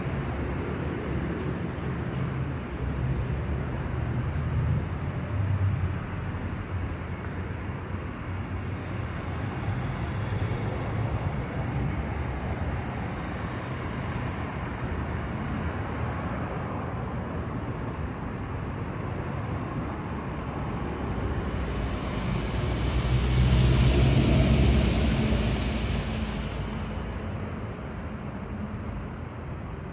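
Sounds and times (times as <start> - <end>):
outdoor traffic rumble: 0.0 - 29.9.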